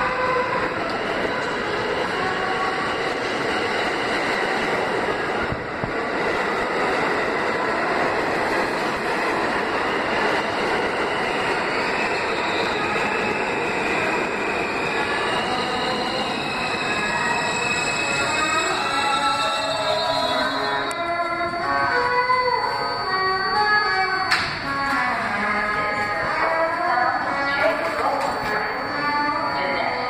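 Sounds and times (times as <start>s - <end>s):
subway train rumbling on rails: 0.0s - 30.0s.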